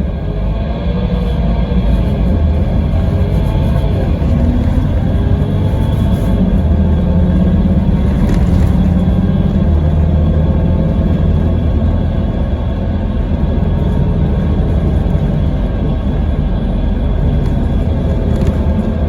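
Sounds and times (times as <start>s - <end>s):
diesel coach engine running: 0.0s - 19.0s.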